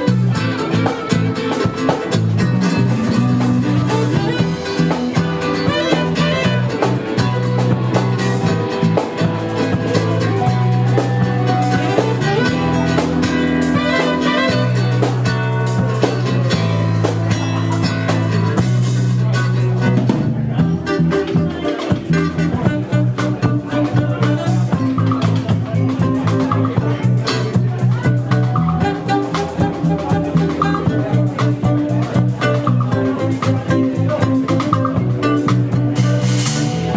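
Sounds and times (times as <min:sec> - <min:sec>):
bass notes: 0:00.0 - 0:36.9
drum kit and cymbals: 0:00.0 - 0:36.9
electric guitar playing: 0:00.0 - 0:36.9.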